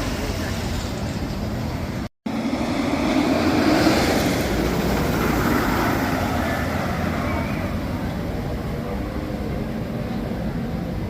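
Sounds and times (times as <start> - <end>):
roller coaster rushing on track: 0.0 - 11.0.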